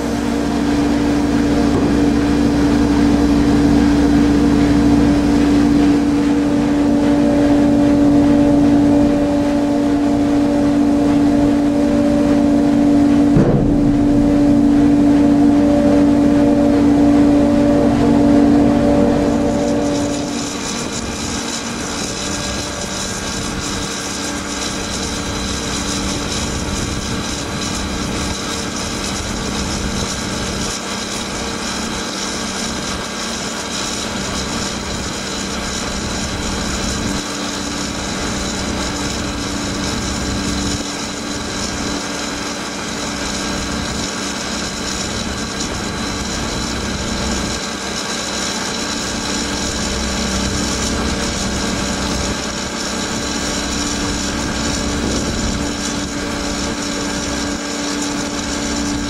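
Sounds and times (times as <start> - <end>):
auger unloading system running: 0.0 - 59.0.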